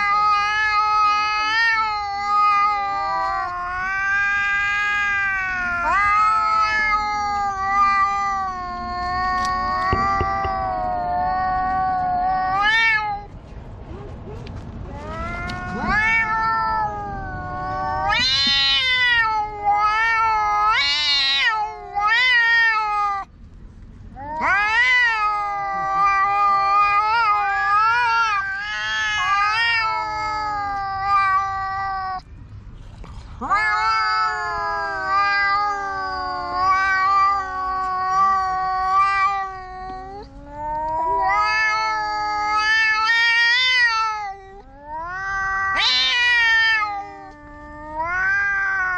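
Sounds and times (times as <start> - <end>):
cats yowling: 0.0 - 23.3, 24.1 - 32.3, 33.0 - 48.9.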